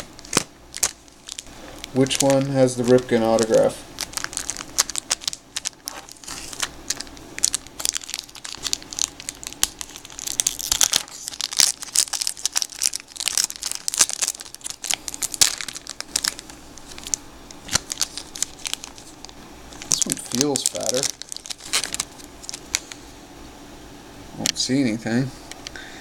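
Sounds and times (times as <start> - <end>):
foil wrapper crinkling and tearing: 0.0 - 23.0.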